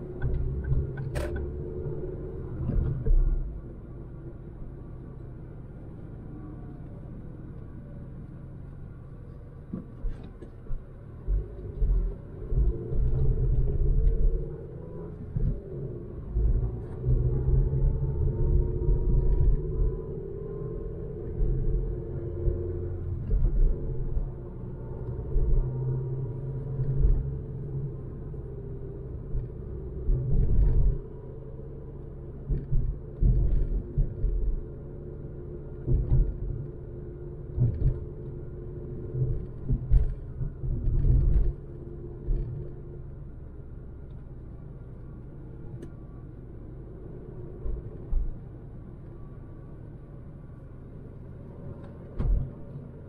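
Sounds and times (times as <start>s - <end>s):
road rumble: 0.0s - 53.0s.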